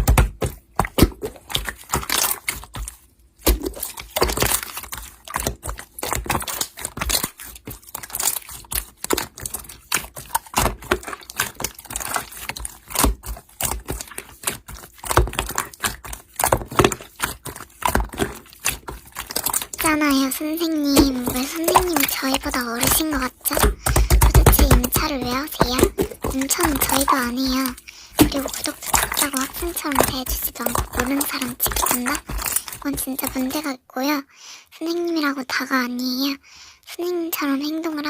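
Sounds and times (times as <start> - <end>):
slime clicking and crackling: 0.0 - 33.7.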